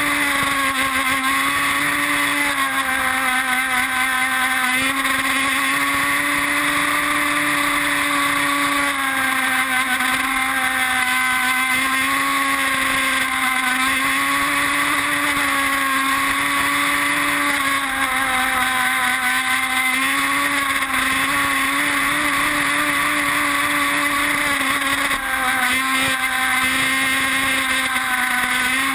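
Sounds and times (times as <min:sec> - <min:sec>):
model boat engine revving high: 0:00.0 - 0:28.9.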